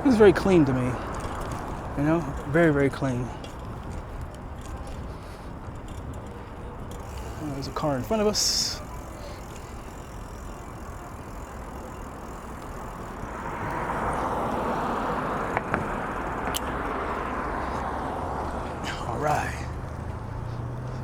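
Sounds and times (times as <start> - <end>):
car tyre and engine road noise: 0.0 - 21.0.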